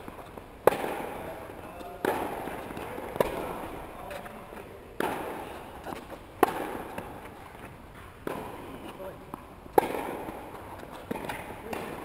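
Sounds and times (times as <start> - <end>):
tennis balls struck by rackets: 0.0 - 12.0.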